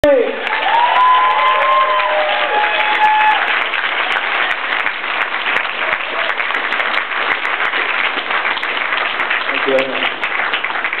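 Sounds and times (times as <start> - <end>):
crowd cheering: 0.0 - 11.0
audience applauding: 0.1 - 11.0.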